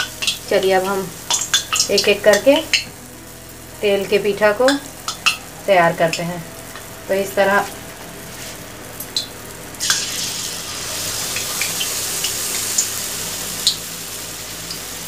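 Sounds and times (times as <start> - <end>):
batter sizzling in hot oil: 0.0 - 15.0
oil popping: 0.0 - 15.0.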